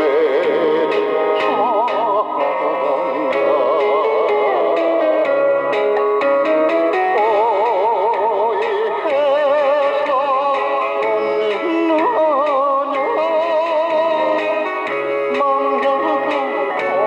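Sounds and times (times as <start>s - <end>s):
old popular song with vibrato melody: 0.0s - 17.0s.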